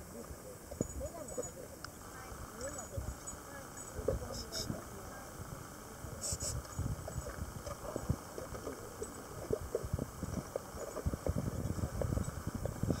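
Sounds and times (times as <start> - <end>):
wind rumble on microphone: 2.2 - 13.0.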